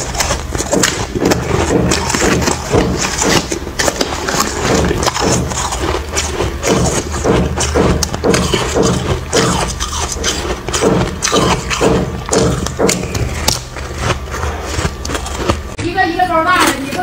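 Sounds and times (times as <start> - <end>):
crushed ice being chewed: 0.0 - 15.8.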